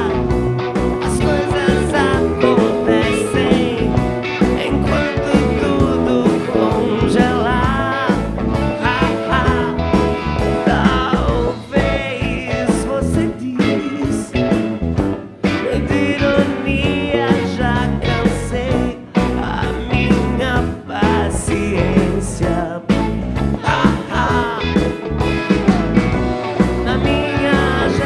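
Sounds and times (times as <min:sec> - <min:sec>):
person singing: 0:00.0 - 0:28.0
psychedelic rock song: 0:00.0 - 0:28.0.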